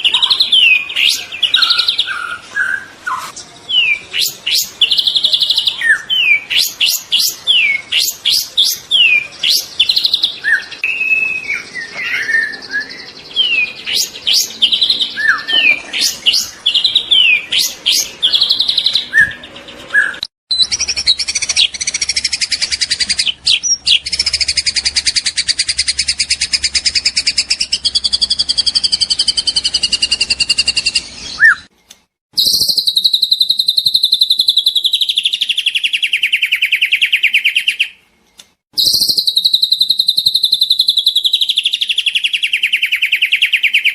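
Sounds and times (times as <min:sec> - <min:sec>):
bird singing whistles and trills: 0:00.0 - 0:31.7, 0:32.4 - 0:38.0, 0:38.8 - 0:43.9.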